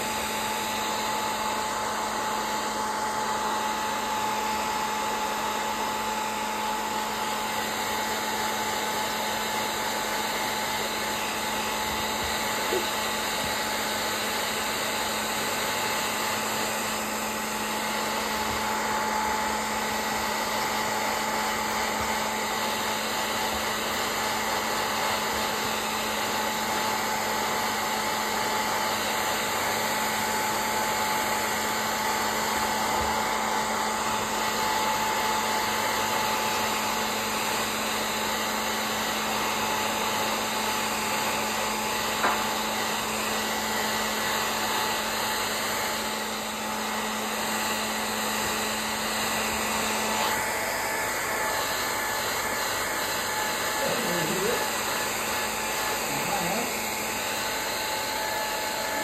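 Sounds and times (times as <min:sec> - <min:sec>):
hair dryer blowing air: 0:00.0 - 0:59.0
hair dryer motor hum: 0:00.0 - 0:59.0.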